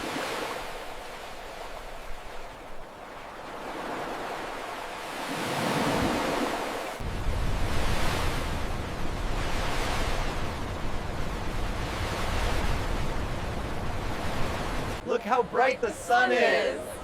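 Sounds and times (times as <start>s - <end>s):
ocean waves: 0.0s - 17.0s.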